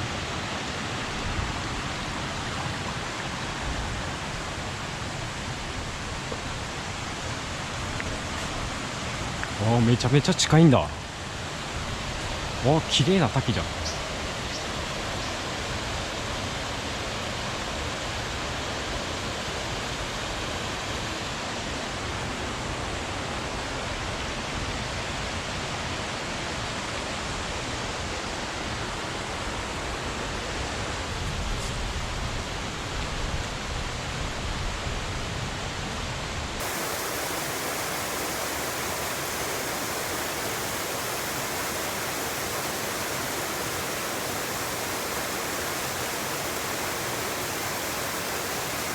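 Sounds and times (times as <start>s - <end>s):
small waterfall rushing: 0.0s - 31.4s, 36.3s - 48.9s.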